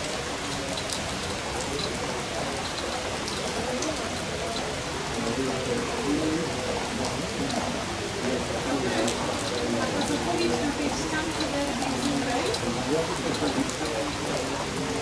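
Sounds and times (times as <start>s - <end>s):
faint indistinct voices: 0.0s - 15.0s
steady rain: 0.0s - 15.0s.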